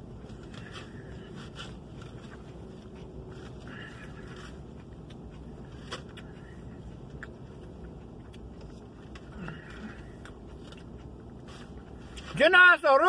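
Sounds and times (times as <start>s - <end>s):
man chewing: 0.0s - 12.3s
vehicle idling: 0.0s - 13.0s.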